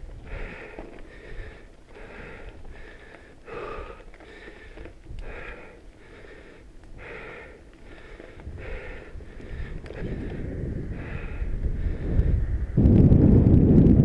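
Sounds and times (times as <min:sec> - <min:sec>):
heavy rhythmic breathing: 0:00.0 - 0:12.8
tyres on trail: 0:00.0 - 0:14.0
wind rumble: 0:00.0 - 0:14.0.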